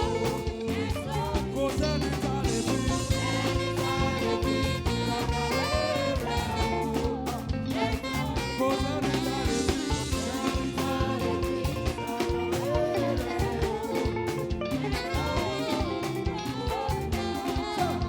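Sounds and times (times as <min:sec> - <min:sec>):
upbeat gospel praise band music: 0:00.0 - 0:18.0.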